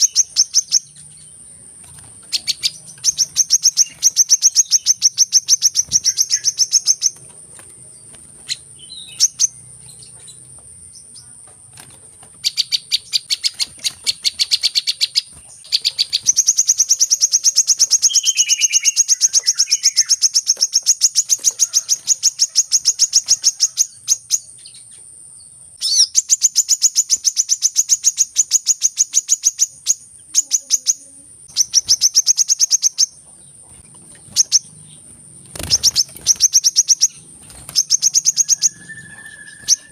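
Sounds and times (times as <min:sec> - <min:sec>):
sunbird rapid high chirps: 0:00.0 - 0:39.9.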